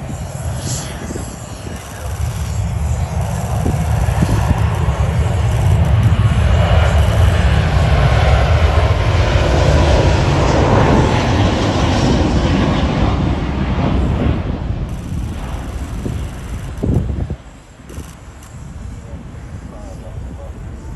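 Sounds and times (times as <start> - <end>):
jet engines roaring: 0.0 - 20.9.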